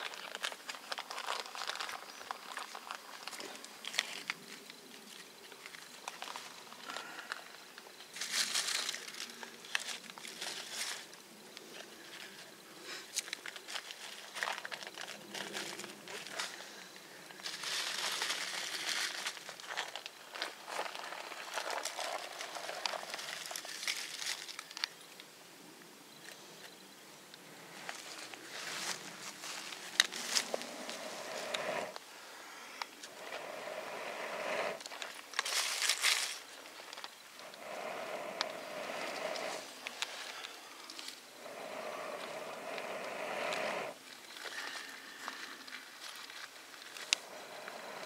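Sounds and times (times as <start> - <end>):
twigs rustling and crackling: 0.0 - 25.3, 27.7 - 32.0, 32.8 - 48.0.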